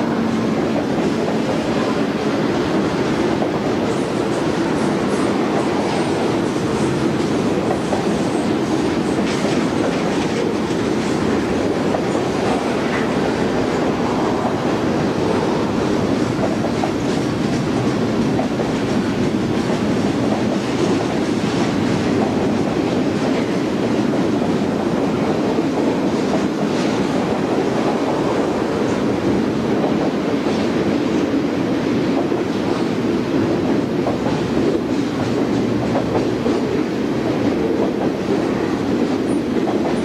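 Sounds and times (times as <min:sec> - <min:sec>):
clicks of train wheels: 0:00.0 - 0:40.0
train wheels rumbling on rails: 0:00.0 - 0:40.0.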